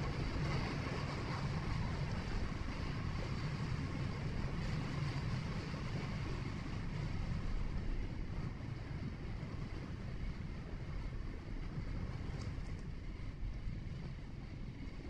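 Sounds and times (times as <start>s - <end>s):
vehicle driving on road: 0.0s - 15.0s.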